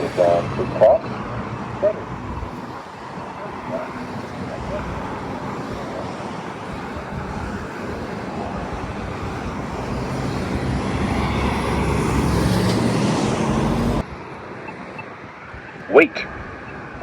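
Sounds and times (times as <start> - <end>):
vehicle engine: 0.0 - 14.2
cars passing: 0.0 - 17.0.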